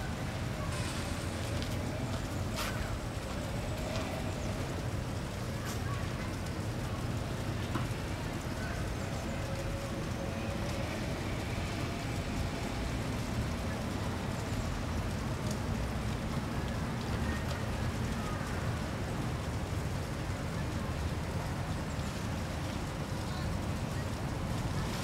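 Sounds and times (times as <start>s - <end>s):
fountain water splashing: 0.0s - 25.0s
low outdoor rumble: 0.0s - 25.0s.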